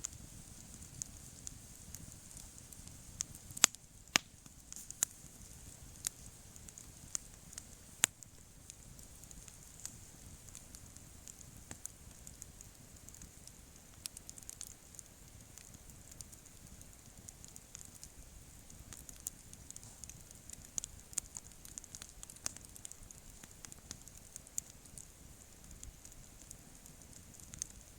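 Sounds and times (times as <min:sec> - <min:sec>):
campfire pops and snaps: 0:00.0 - 0:27.9
faint steady hiss: 0:00.0 - 0:27.9.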